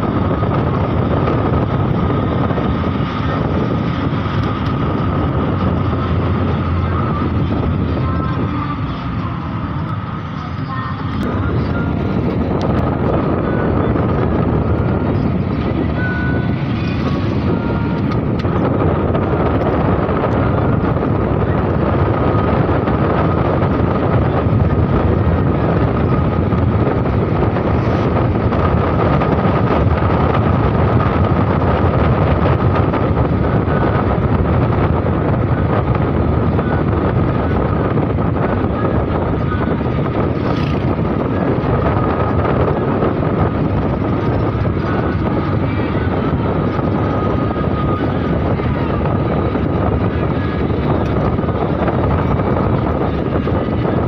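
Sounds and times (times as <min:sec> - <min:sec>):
thin steady whine: 0:00.0 - 0:54.0
vehicle engine and tyre noise: 0:00.0 - 0:54.0.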